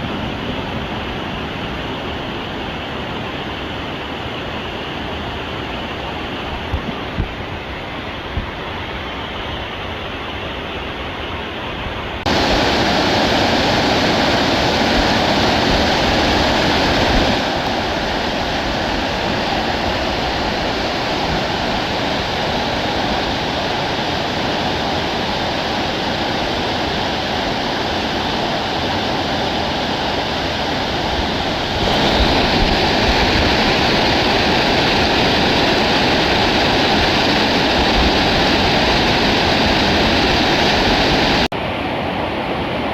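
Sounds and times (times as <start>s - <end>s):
rushing mountain stream: 0.0s - 42.9s.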